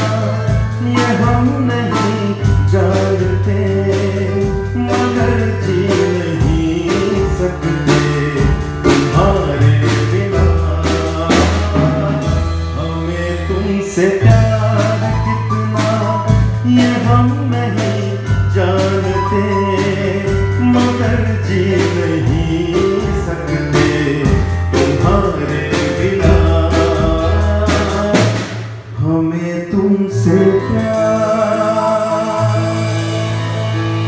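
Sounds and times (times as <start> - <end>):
drum kit with cymbals: 0.0 - 29.0, 30.3 - 34.0
man singing into microphone: 0.0 - 33.6
electronic keyboard: 0.0 - 34.0.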